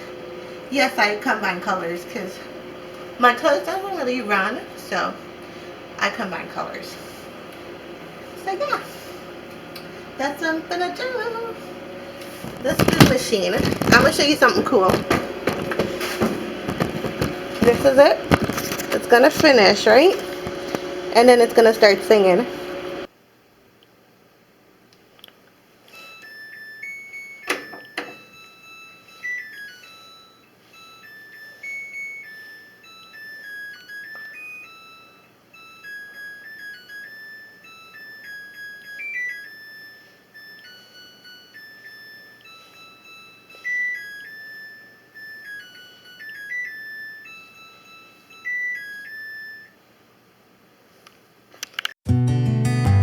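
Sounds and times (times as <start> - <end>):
washing machine beep tune: 0.0 - 7.2, 8.0 - 23.1, 25.9 - 49.8.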